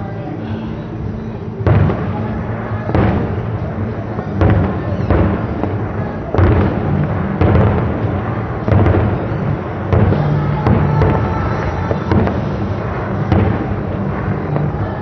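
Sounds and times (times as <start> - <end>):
fireworks booming: 1.0 - 15.0.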